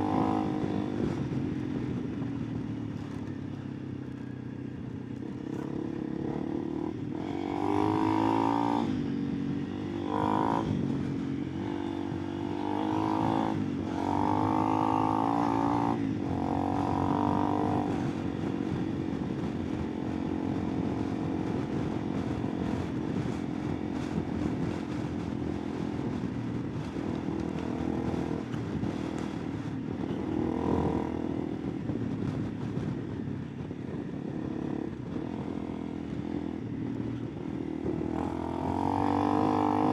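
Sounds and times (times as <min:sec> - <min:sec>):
motorcycle engine revving: 0:00.0 - 0:03.6, 0:04.4 - 0:39.9.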